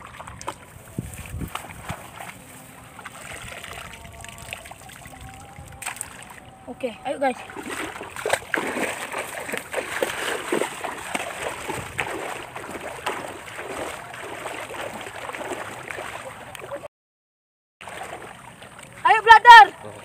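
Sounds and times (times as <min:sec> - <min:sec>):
wading through shallow water: 0:00.0 - 0:16.9, 0:17.8 - 0:20.0.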